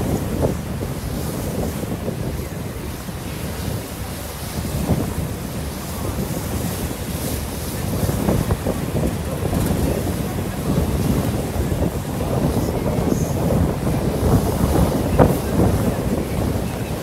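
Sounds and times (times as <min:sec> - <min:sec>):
rushing water: 0:00.0 - 0:17.0
wind buffeting microphone: 0:00.0 - 0:17.0.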